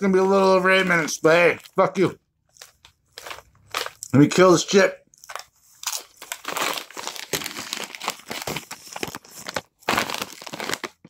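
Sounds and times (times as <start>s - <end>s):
chip bag crinkling: 0.2s - 4.3s, 5.1s - 11.0s.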